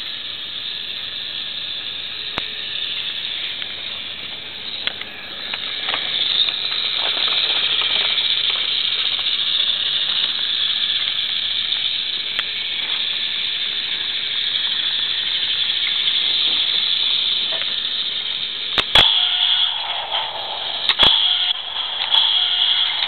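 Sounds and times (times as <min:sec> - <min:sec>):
toy train motor whirring: 0:00.0 - 0:23.0.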